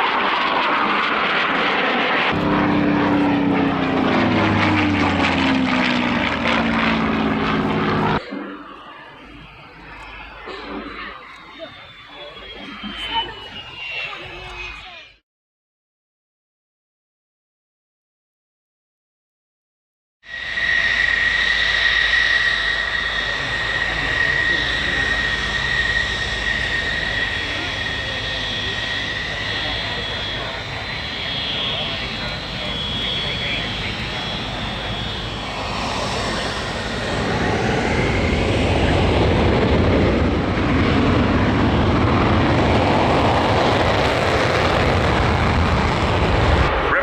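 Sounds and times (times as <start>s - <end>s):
aircraft turbine engine whine: 0.0s - 15.0s, 20.3s - 47.0s.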